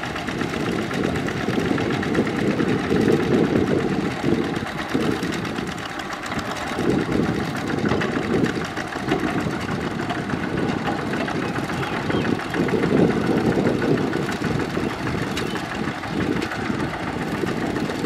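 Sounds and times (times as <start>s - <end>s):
diesel tractor engine under load: 0.0s - 18.0s.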